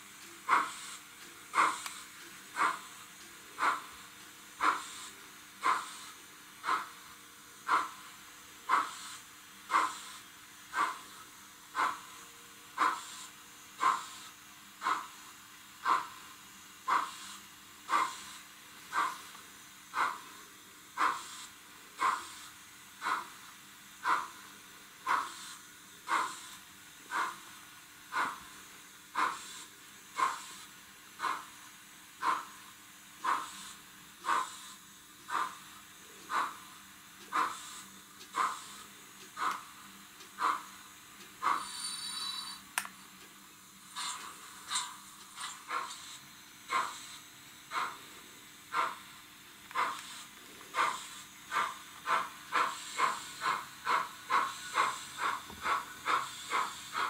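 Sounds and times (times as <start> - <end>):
faint steady hum: 0.0 - 57.0
model train steam chuffs: 0.0 - 57.0.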